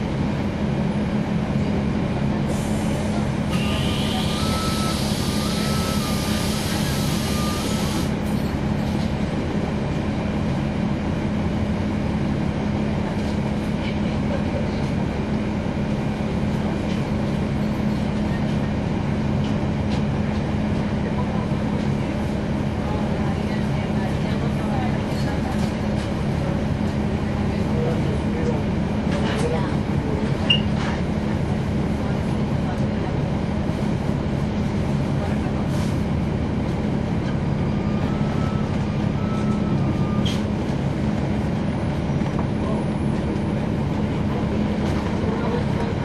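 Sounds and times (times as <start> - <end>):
bus diesel engine running: 0.0 - 46.0.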